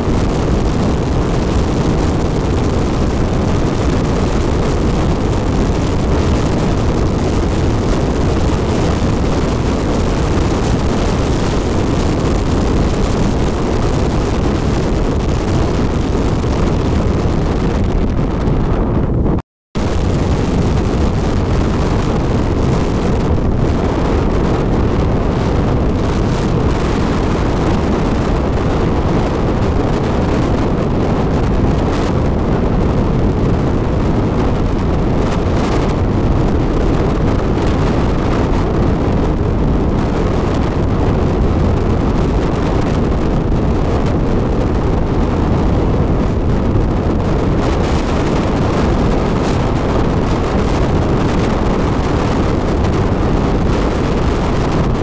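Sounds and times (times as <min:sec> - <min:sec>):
motorcycle running: 0:00.0 - 0:55.0
road noise: 0:00.0 - 0:55.0
wind buffeting microphone: 0:00.0 - 0:55.0.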